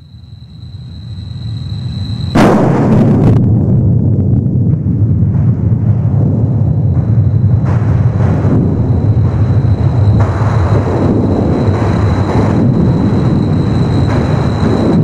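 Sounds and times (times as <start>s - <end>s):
deep rumble with rushing noise: 1.0s - 15.0s.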